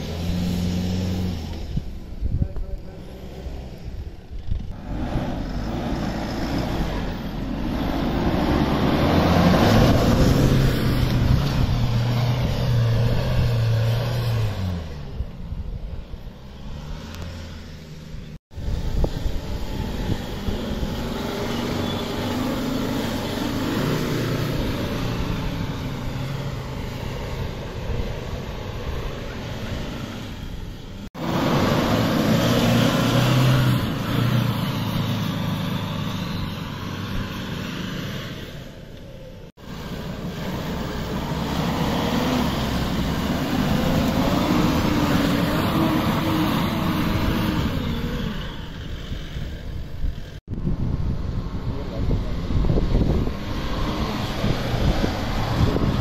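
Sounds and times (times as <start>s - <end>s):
vehicle engines revving: 0.0s - 56.0s.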